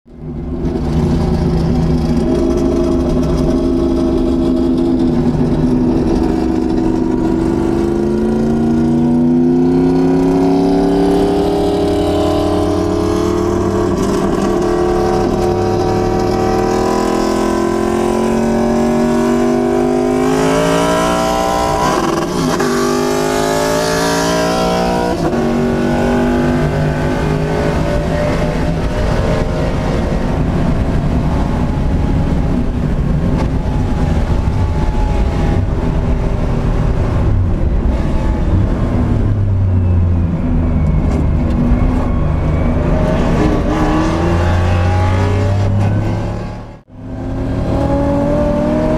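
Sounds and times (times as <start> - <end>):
race car engine at full throttle: 0.1 - 48.9.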